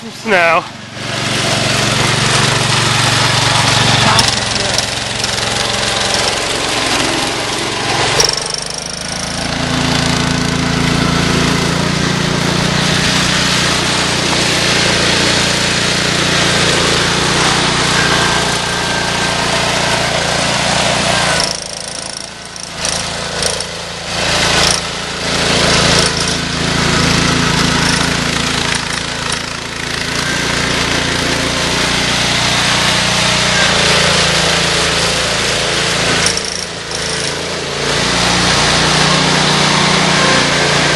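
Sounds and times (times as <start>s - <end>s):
tractor engine running at high revs: 0.0s - 40.9s.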